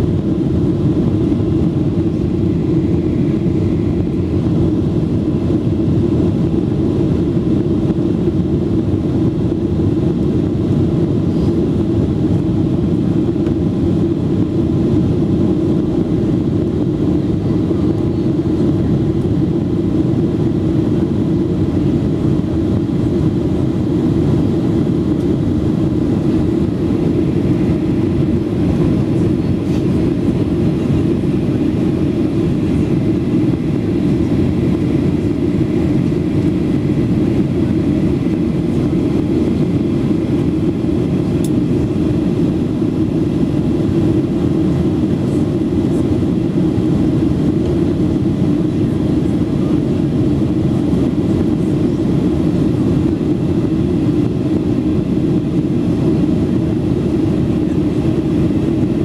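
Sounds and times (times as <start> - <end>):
jet cabin engine drone: 0.0 - 59.0.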